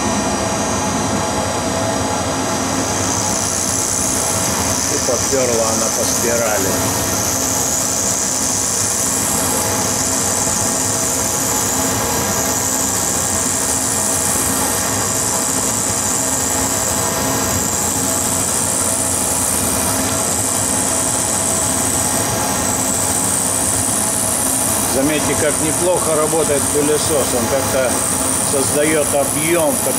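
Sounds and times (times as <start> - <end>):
milling machine spindle running: 0.0 - 29.9
end mill cutting graphite: 1.9 - 29.9
dust extraction vacuum hissing: 2.8 - 29.9.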